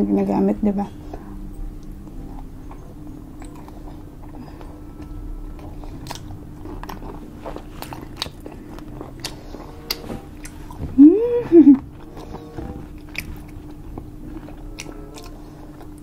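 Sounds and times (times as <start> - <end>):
steady low hum: 0.0 - 16.0
chewing with mouth clicks: 1.1 - 10.9, 11.8 - 16.0.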